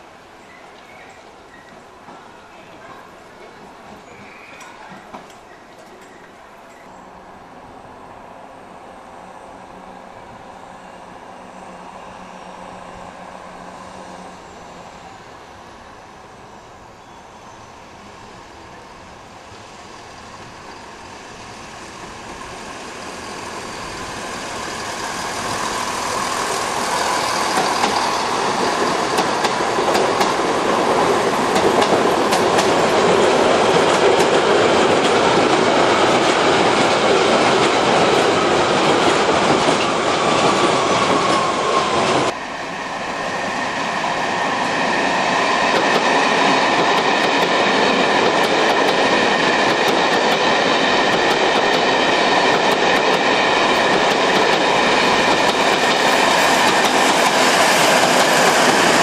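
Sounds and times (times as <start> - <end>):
passenger train rolling past: 0.0 - 59.0
train whine: 0.0 - 59.0.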